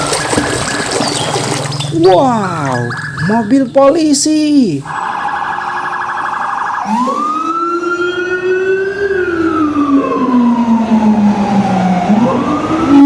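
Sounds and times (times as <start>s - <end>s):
police siren wailing: 1.9s - 13.0s.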